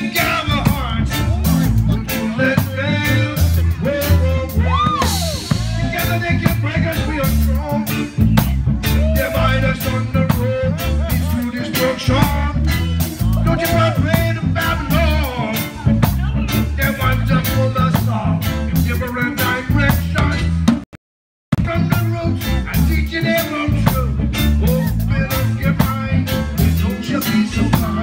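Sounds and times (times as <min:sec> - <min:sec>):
live reggae band playing: 0:00.0 - 0:20.9, 0:21.5 - 0:28.0.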